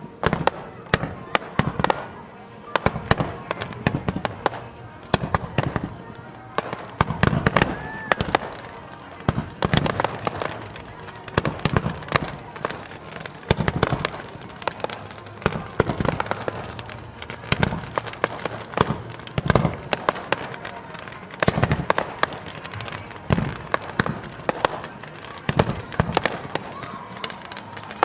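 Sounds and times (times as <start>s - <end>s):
fireworks booming: 0.0s - 28.0s
fireworks cracks and pops: 0.0s - 28.0s.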